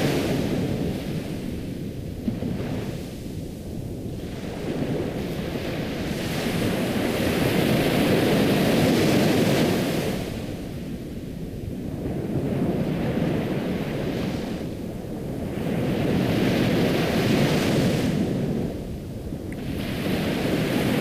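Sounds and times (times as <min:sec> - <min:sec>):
ocean waves: 0:00.0 - 0:01.6, 0:04.1 - 0:11.4, 0:12.4 - 0:21.0.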